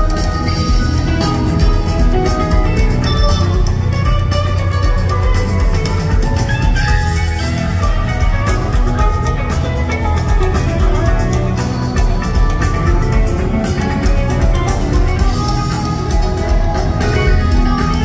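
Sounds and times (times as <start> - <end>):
bass guitar: 0.0 - 18.0
drum kit with cymbals: 0.0 - 18.0
electric guitars: 0.0 - 18.0.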